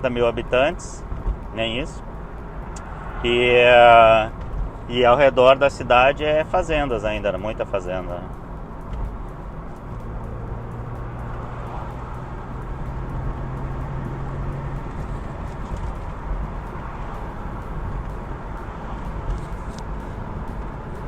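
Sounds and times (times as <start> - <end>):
car engine hum: 0.0 - 21.0
wind: 0.0 - 21.0.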